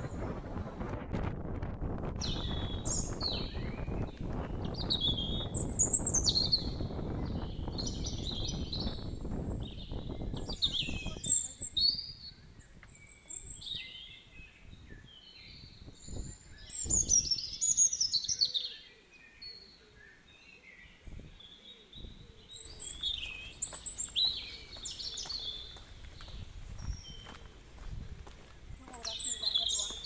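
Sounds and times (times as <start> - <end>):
birds chirping: 0.0 - 1.0, 2.1 - 30.0.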